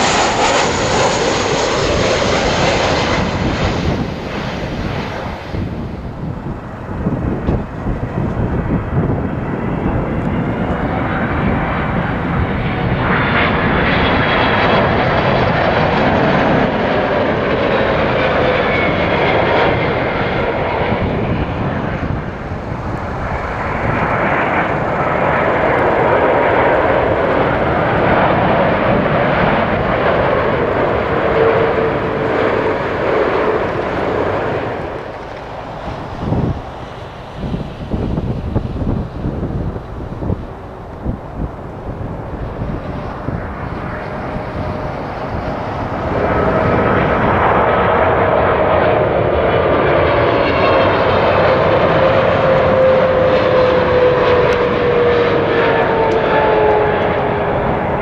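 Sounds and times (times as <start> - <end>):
jet airliner engines passing low: 0.0 - 58.0.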